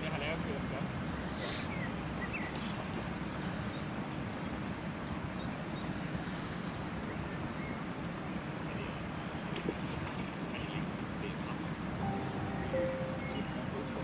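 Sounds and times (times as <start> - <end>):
lake water: 0.0 - 14.0.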